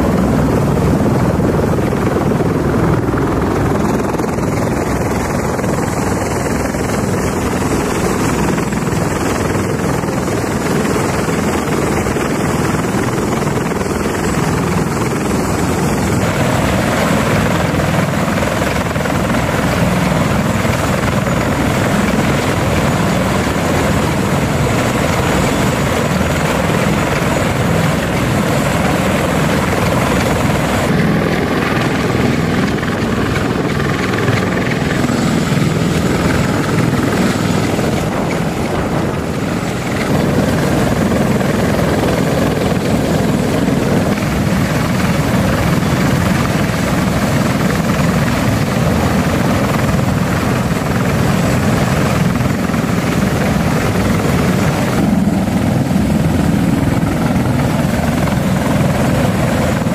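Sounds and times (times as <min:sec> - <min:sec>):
helicopter rotor and engine rumble: 0:00.0 - 0:59.9.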